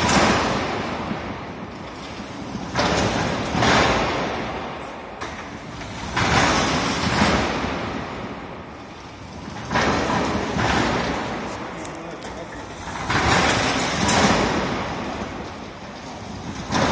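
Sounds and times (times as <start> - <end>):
roller coaster wheels rolling: 0.0 - 16.9.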